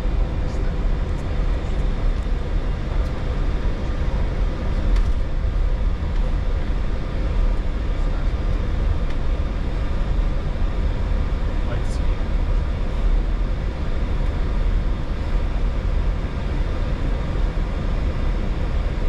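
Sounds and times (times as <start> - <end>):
aircraft cabin rumble: 0.0 - 19.0
engine and systems hum: 0.0 - 19.0.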